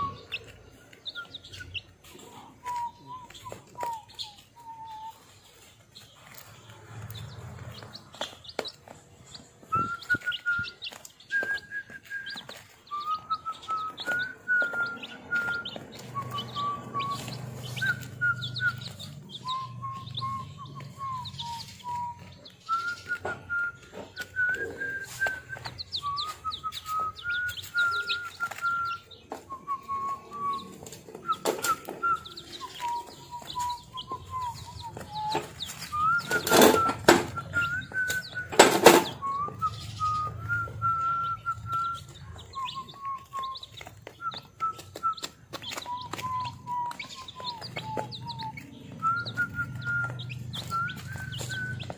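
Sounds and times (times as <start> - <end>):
whistled melody: 0.0 - 8.1, 9.0 - 51.9
chicks pecking feed: 0.0 - 51.9
chicks peeping: 0.0 - 51.9.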